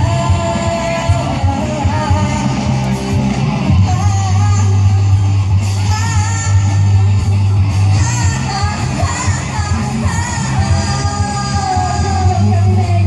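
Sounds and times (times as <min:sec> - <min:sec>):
bass line: 0:00.0 - 0:13.0
rock band playing: 0:00.0 - 0:13.0.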